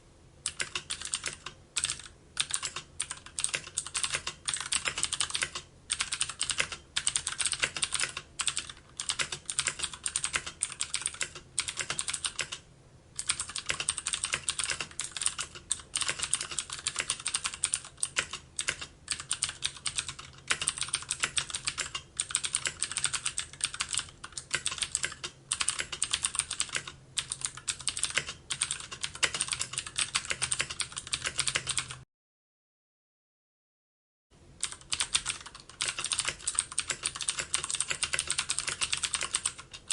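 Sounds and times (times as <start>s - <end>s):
fast typing on keyboard: 0.5s - 12.6s, 13.2s - 32.0s, 34.6s - 39.9s.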